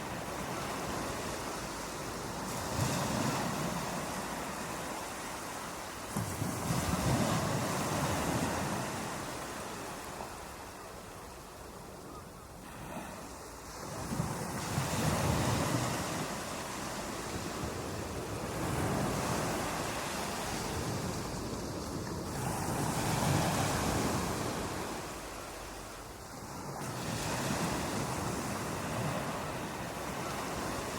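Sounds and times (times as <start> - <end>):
ocean waves breaking on beach: 0.0 - 30.9.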